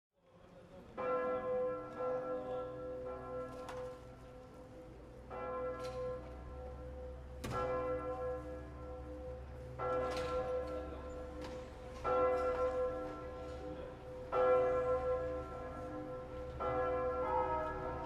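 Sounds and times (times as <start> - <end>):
church bell ringing: 1.0 - 18.0.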